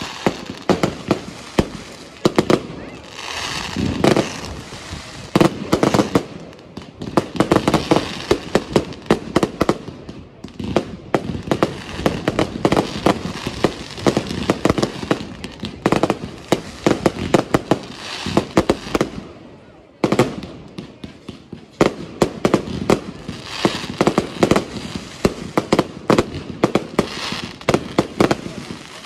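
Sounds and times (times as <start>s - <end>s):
fireworks bangs and pops: 0.0s - 29.0s
fireworks crackling: 0.0s - 29.0s.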